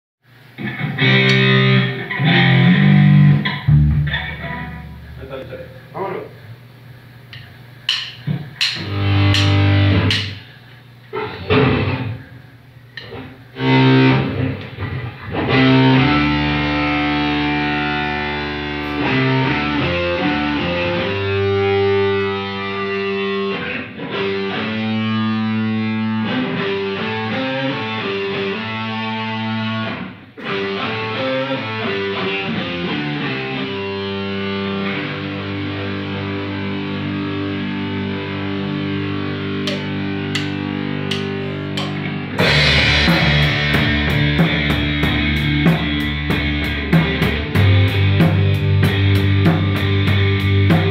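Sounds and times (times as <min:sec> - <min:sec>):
distorted electric guitar melody: 0:00.3 - 0:06.0, 0:06.8 - 0:50.9.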